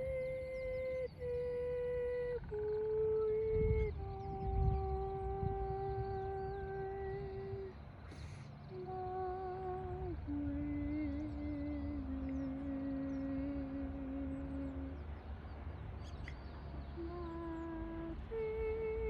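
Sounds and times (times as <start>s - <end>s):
humming drone in held notes: 0.0s - 19.0s.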